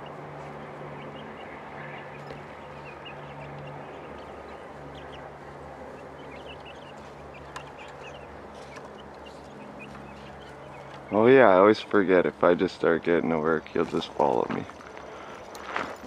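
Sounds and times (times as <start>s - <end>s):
poultry chirping and clucking: 0.0s - 15.4s
steady low hum: 0.0s - 16.0s.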